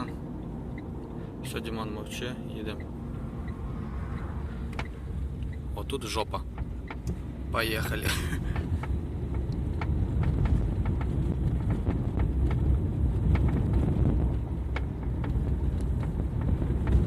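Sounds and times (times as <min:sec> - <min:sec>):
road and engine rumble in cabin: 0:00.0 - 0:17.0.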